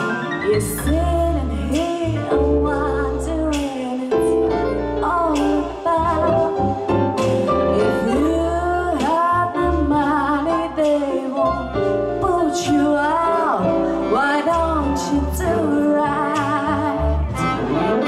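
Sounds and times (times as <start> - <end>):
bass line: 0.0 - 18.0
woman singing with vibrato: 0.4 - 6.8, 7.7 - 17.4.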